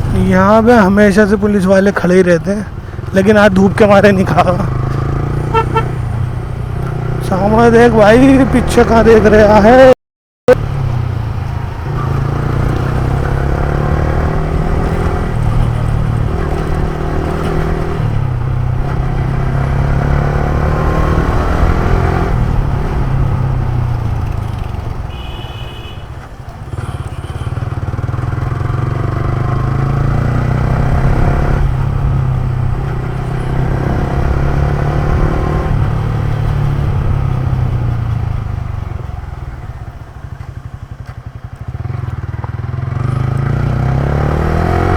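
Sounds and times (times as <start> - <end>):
motorcycle engine running: 2.2 - 8.8, 10.5 - 44.9.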